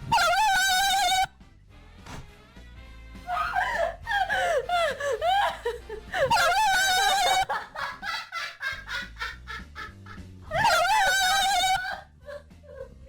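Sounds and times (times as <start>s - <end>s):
woman laughing in squeals: 0.1s - 1.3s, 3.3s - 13.0s.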